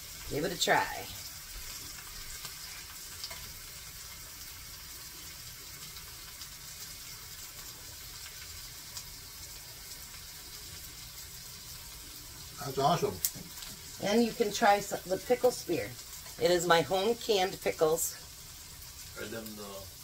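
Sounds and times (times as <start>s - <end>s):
food sizzling in a skillet: 0.0s - 20.0s.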